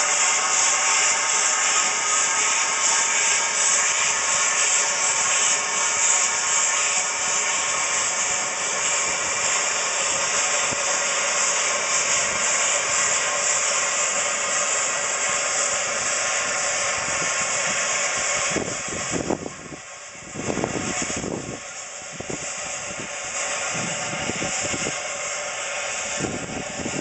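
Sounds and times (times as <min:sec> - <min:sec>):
steam hissing from locomotive: 0:00.0 - 0:27.0.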